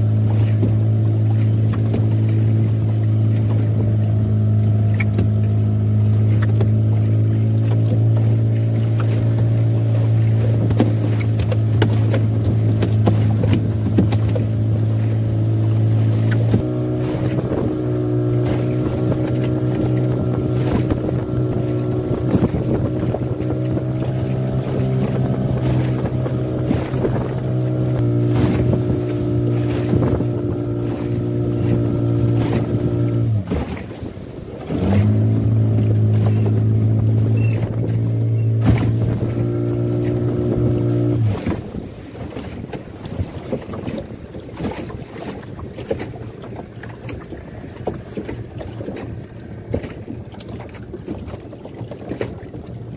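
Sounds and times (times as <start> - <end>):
outboard motor hum: 0.0 - 52.9
water splashing against hull: 0.0 - 52.9.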